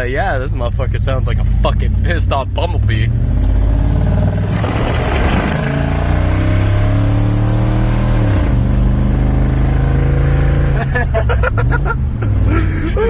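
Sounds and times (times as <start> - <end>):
loud car engine accelerating: 0.8 - 12.7.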